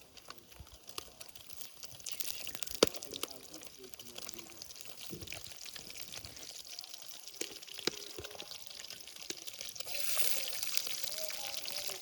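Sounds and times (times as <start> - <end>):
liquid pouring and dripping: 0.1 - 12.0.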